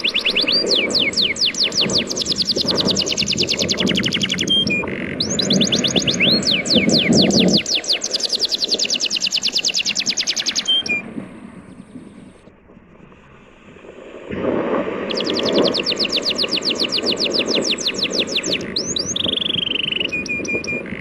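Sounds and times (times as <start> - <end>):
bird trilling chirps: 0.0 - 12.4, 15.1 - 21.0
surf: 0.0 - 21.0.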